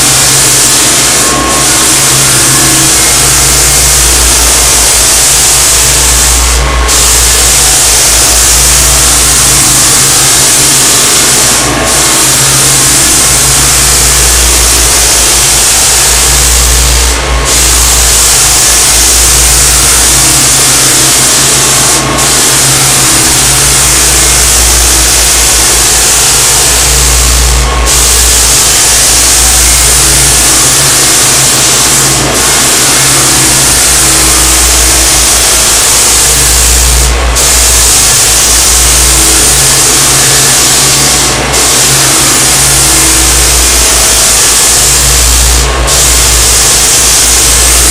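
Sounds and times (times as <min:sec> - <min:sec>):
dust vacuum running: 0:00.0 - 0:47.9
floor sander running: 0:00.0 - 0:47.9.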